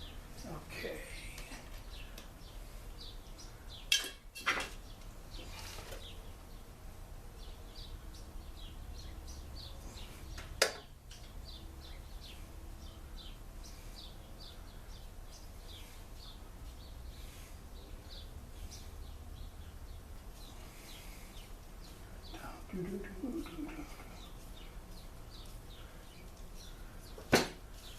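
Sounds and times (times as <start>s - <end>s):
birds chirping: 0.0s - 27.9s.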